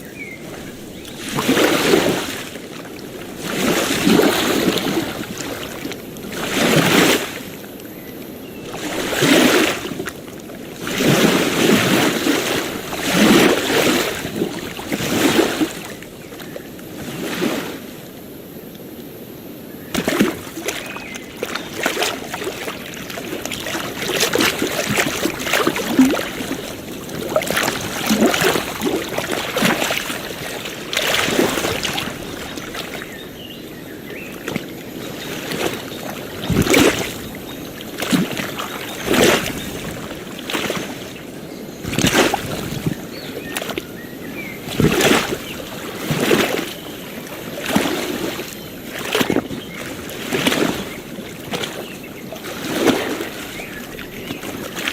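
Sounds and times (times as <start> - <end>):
water splashing: 0.0 - 17.9, 19.8 - 54.9
waves lapping and sloshing: 0.0 - 54.9.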